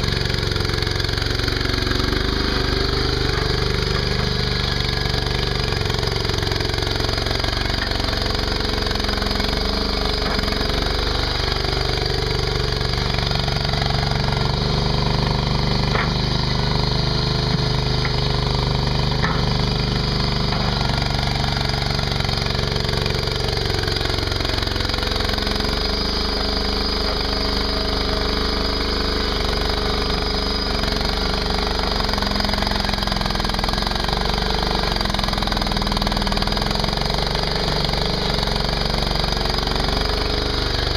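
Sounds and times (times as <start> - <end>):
skid steer engine running: 0.0 - 40.9.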